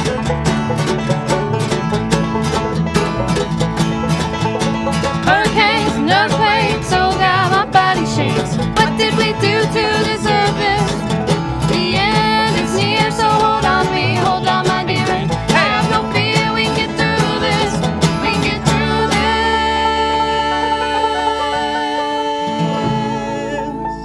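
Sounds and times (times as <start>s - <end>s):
country band plucked strings: 0.0s - 24.0s.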